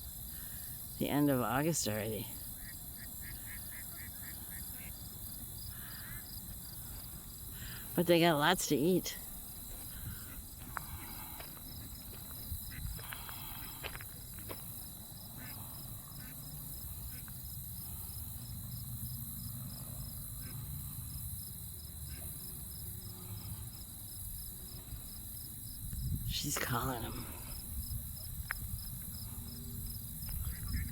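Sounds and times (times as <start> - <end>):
insects trilling: 0.0 - 30.9
pulsing insect chirp: 0.0 - 30.9.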